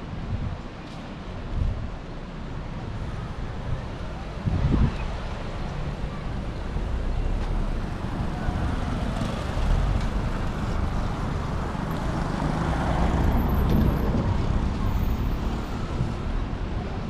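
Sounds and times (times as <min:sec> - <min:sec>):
vehicles driving by: 0:00.1 - 0:17.0.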